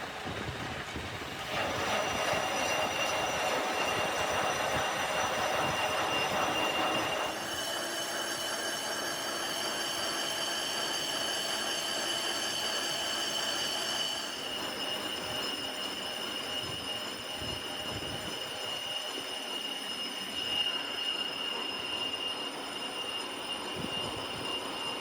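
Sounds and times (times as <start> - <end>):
machine tool whine on metal: 0.3 - 25.0.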